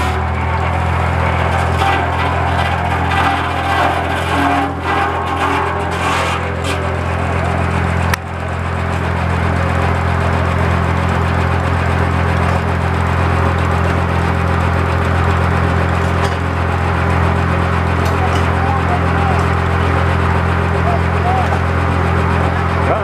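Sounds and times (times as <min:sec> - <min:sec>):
sawmill engine humming: 0:00.0 - 0:23.0.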